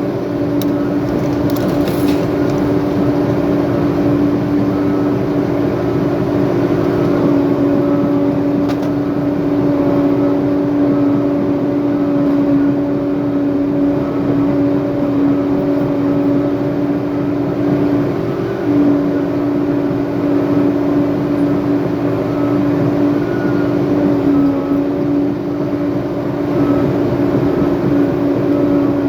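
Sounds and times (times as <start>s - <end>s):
diesel engine droning under load: 0.0s - 29.0s.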